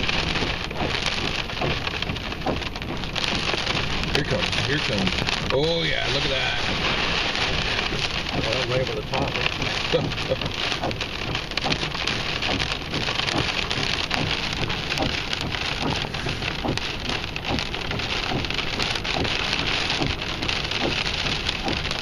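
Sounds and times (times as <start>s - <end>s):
heavy rain pattering: 0.0s - 22.0s.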